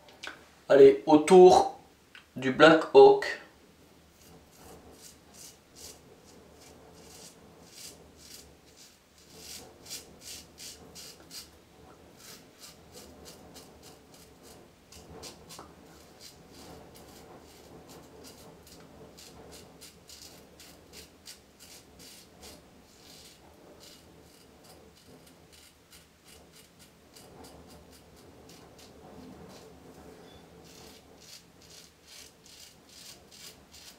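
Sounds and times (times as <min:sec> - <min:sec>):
razor scraping stubble: 0:04.2 - 0:11.6, 0:12.2 - 0:33.9.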